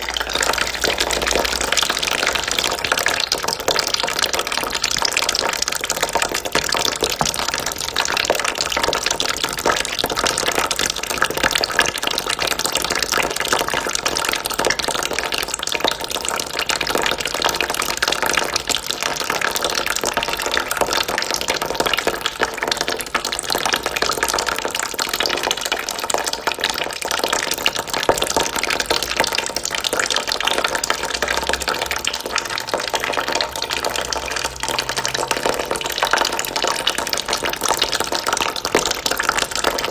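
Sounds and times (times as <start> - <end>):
water trickling into bucket: 0.0 - 39.9.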